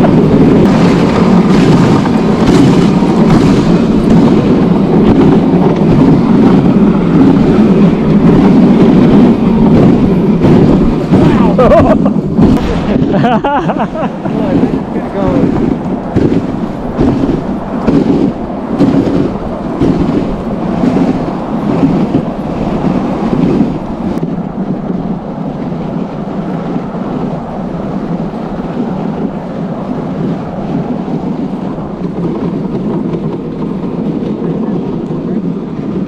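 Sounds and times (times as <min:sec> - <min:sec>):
sled bumping: 0:00.0 - 0:36.0
sled runners scraping over snow: 0:00.0 - 0:36.0.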